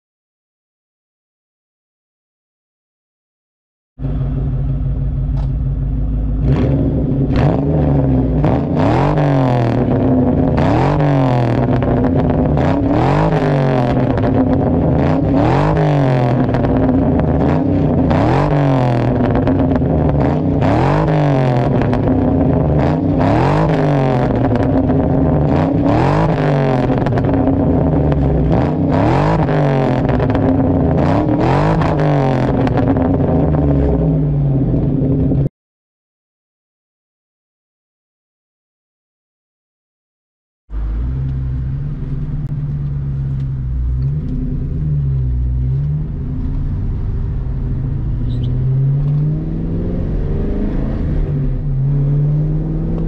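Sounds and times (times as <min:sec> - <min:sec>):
car engine revving: 0:04.0 - 0:35.5, 0:40.7 - 0:53.0.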